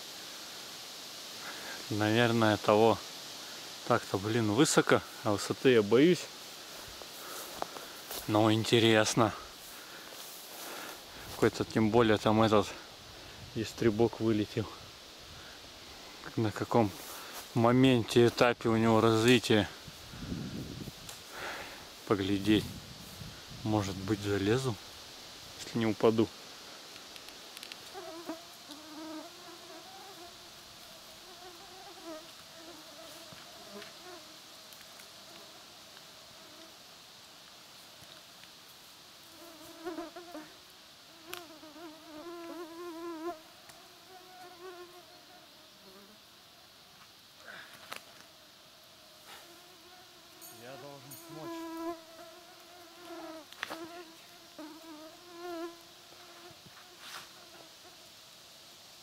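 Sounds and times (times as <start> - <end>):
flying insects buzzing: 0.0 - 59.0.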